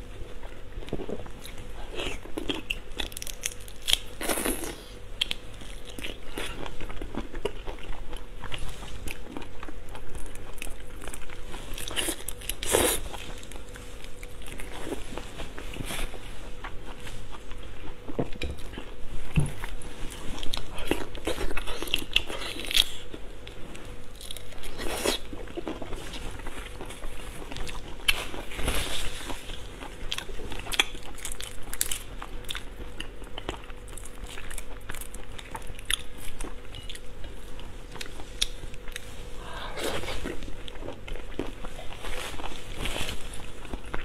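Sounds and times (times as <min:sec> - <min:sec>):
chewing and crunching shrimp: 0:00.0 - 0:44.0.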